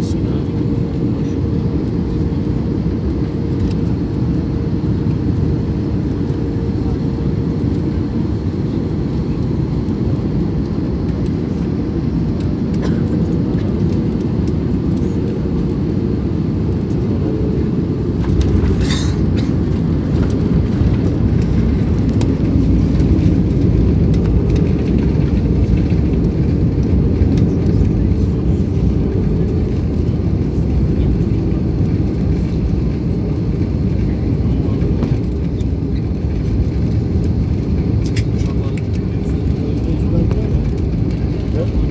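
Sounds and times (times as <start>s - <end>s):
jet engines droning in cabin: 0.0s - 41.9s
wheels rumbling on runway: 0.0s - 41.9s.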